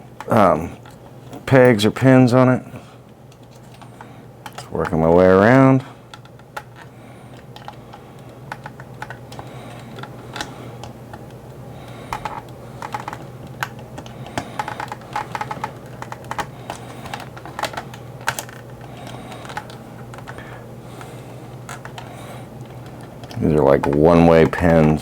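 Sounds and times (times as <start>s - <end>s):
steady low hum: 0.0s - 25.0s
screwdriver clicking on plastic: 3.3s - 11.4s, 12.1s - 25.0s.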